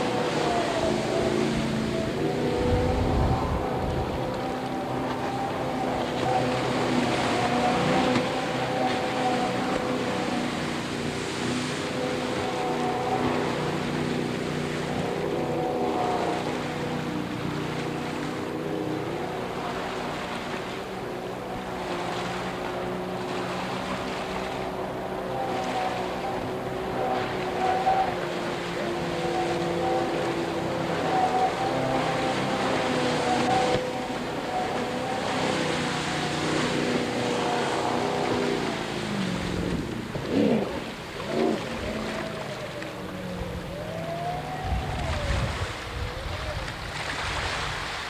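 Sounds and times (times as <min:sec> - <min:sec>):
boat engine running hard: 0:00.0 - 0:48.0
rush of water from jet: 0:00.0 - 0:48.0.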